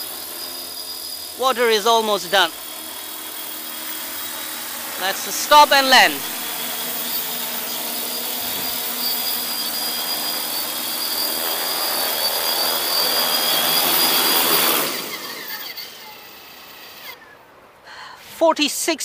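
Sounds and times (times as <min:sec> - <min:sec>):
rotor noise winding down: 0:00.0 - 0:17.5
drone propellers whirring: 0:00.0 - 0:17.8.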